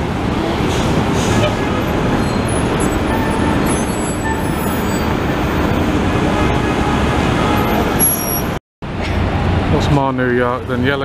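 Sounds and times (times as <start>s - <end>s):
busy city street traffic: 0.0s - 11.0s.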